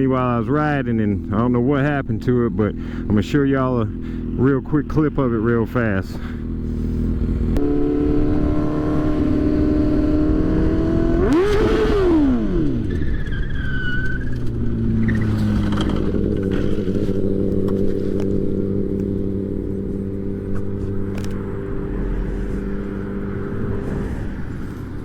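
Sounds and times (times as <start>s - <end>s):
motorcycle engine revving: 1.2s - 25.0s.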